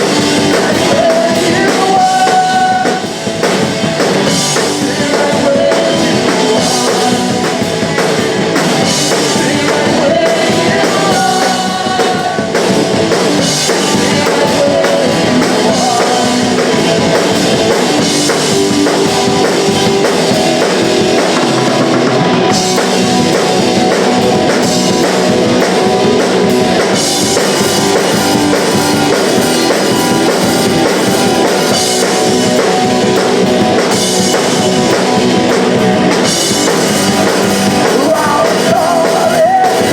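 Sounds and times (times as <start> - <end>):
drum kit beat: 0.0 - 39.9
punk rock band playing live: 0.0 - 39.9.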